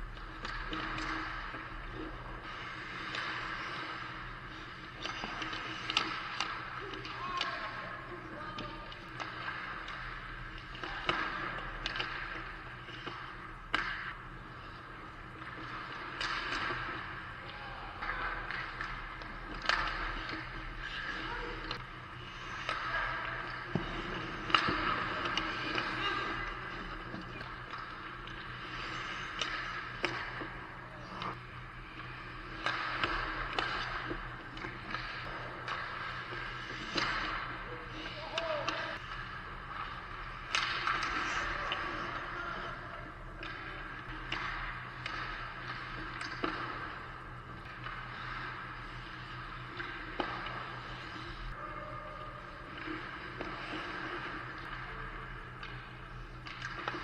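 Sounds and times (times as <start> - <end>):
hockey sticks and puck clacking: 0.1 - 51.2, 55.6 - 57.0.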